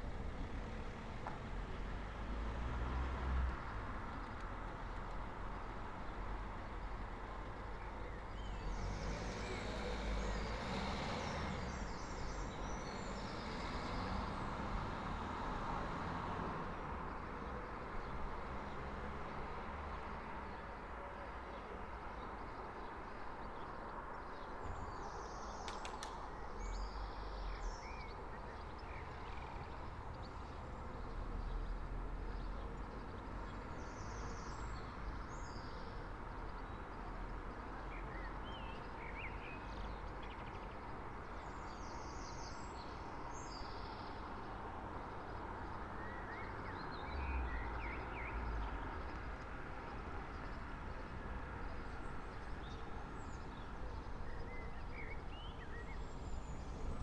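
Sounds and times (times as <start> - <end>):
passing vehicles rumbling: 0.0 - 21.0, 23.8 - 57.0
distant traffic hum: 0.0 - 57.0
songbirds chirping: 0.0 - 57.0.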